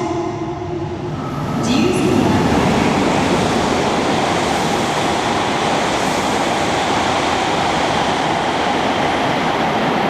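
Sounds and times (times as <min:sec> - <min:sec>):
high-speed train rushing: 0:00.0 - 0:10.0.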